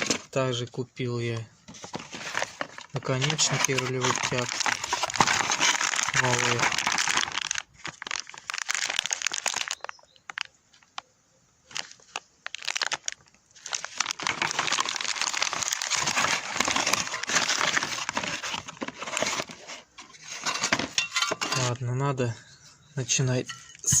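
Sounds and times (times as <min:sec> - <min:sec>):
packaging crinkling and rustling: 0:00.0 - 0:00.4, 0:01.2 - 0:11.0, 0:11.7 - 0:21.8.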